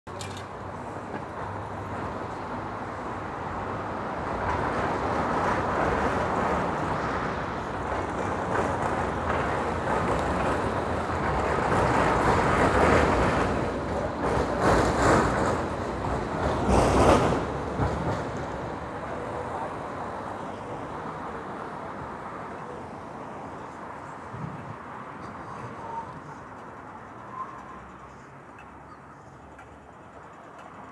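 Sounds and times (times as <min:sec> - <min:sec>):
tram wheels on rails: 0:00.1 - 0:30.9.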